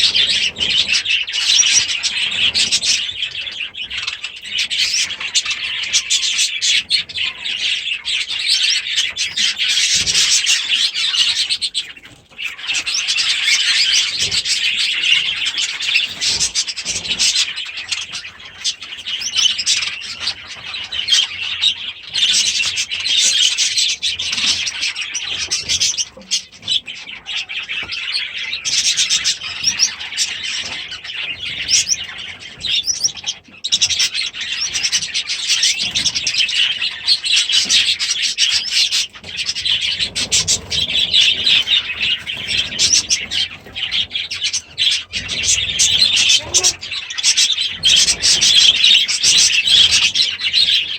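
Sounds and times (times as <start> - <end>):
birds chirping and chattering: 0.0 - 50.9.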